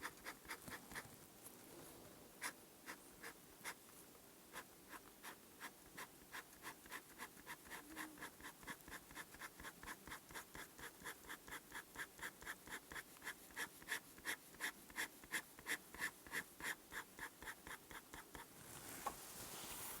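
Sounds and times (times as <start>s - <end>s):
pen nib scratching paper: 0.0s - 1.1s, 2.4s - 3.8s, 4.5s - 18.5s.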